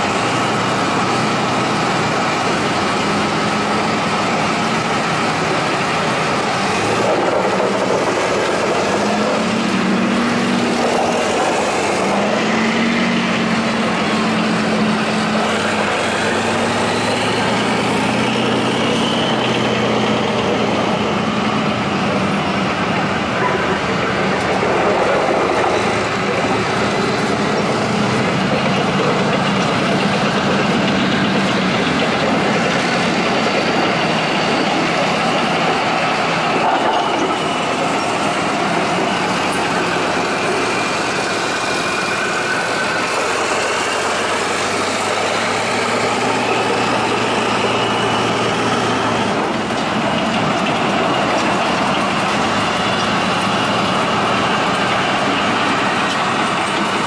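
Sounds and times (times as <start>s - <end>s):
tank diesel engines running: 0.0s - 57.0s.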